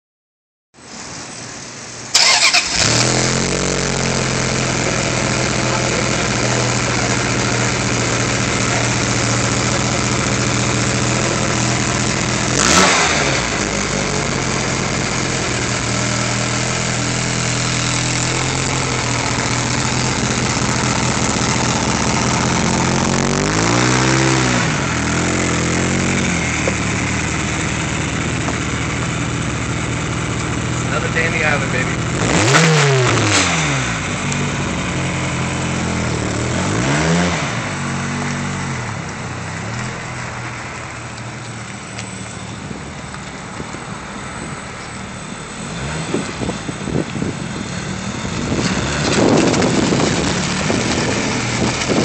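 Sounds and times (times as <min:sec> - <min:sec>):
car engine starting and idling: 0:00.8 - 0:52.0
engine revving: 0:02.1 - 0:40.4, 0:45.2 - 0:52.0.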